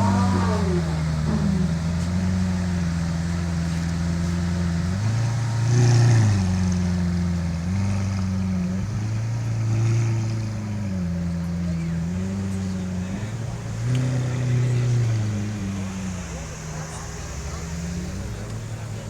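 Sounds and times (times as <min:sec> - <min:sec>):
sports car engine idling: 0:00.0 - 0:19.0.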